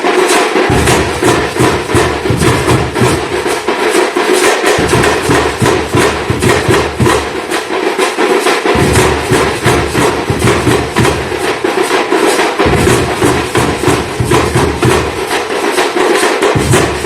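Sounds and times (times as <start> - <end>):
drums played loud and fast: 0.0 - 17.0.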